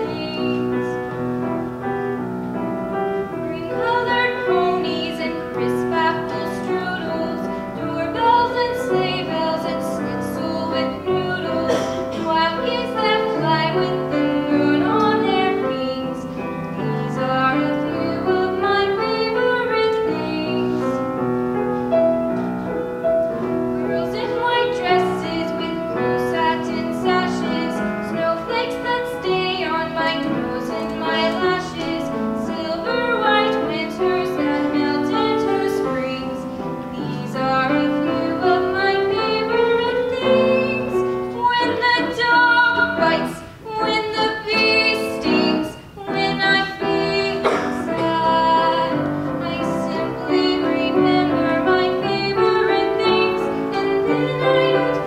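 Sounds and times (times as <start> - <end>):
girl singing: 0.0 - 1.1, 3.3 - 21.0, 23.8 - 55.0
piano accompaniment: 0.0 - 55.0.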